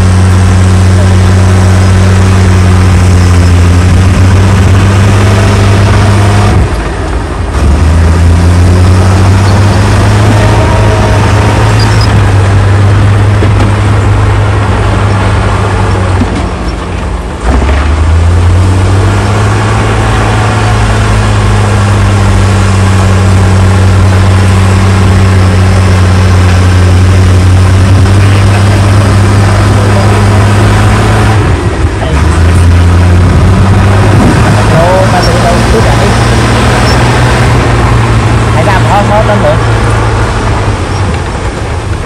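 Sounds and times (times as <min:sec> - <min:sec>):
heavy diesel engines droning: 0:00.0 - 0:42.0.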